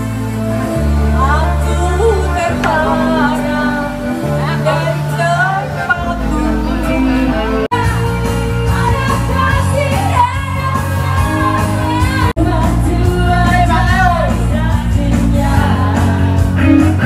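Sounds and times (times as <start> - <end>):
electronic keyboard: 0.0 - 17.0
person singing into microphone: 0.9 - 17.0.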